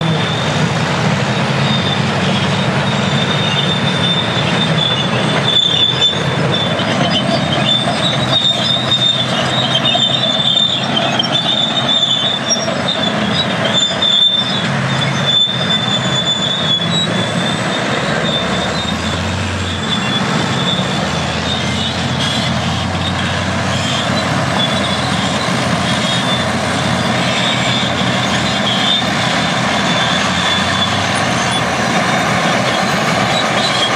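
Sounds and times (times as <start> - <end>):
bulldozer diesel engine: 0.0 - 33.9
crawler tracks squealing: 0.0 - 33.9.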